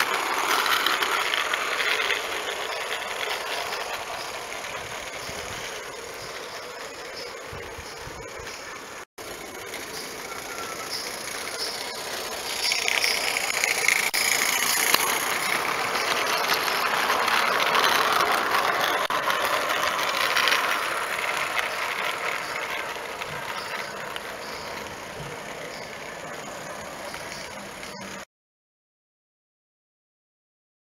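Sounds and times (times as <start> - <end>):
model steam train running on track: 0.0 - 28.2.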